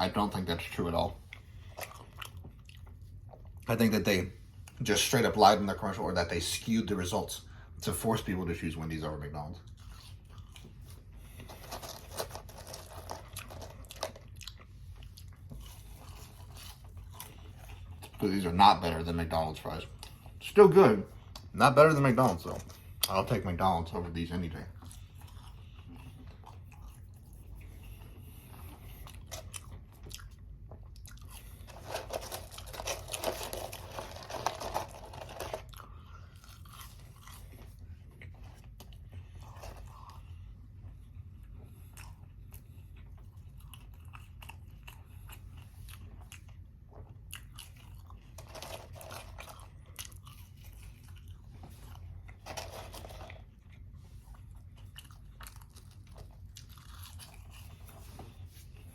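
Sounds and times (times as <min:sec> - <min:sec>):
person chewing crunchy fries: 0:00.0 - 0:03.8, 0:09.3 - 0:58.9.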